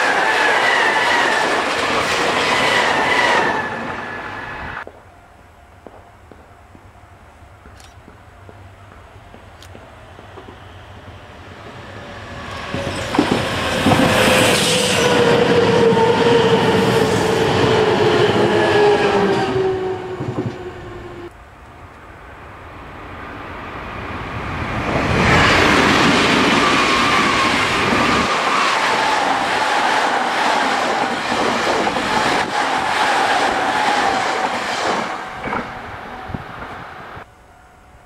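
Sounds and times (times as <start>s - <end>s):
train wheels rumbling on rails: 0.0s - 7.0s, 7.6s - 37.2s
falling train tone: 0.0s - 38.0s.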